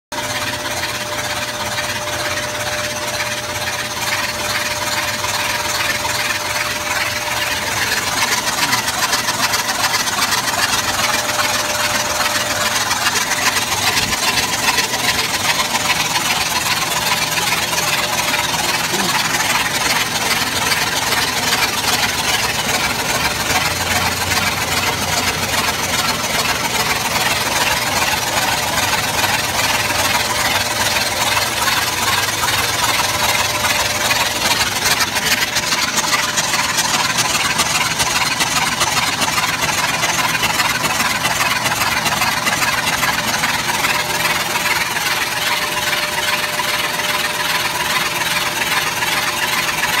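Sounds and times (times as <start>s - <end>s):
car engine running: 0.1s - 50.0s.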